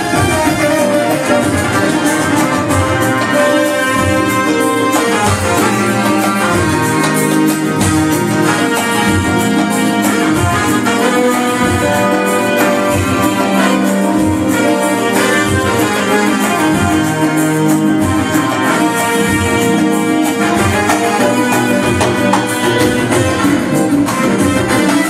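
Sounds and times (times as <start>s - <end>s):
keyboard brass-style lead melody: 0.0s - 25.0s.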